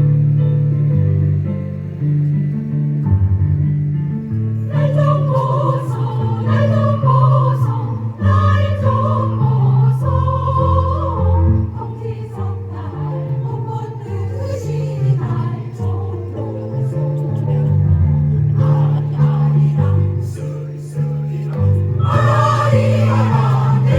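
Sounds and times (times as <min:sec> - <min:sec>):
choir singing: 0:04.6 - 0:23.9.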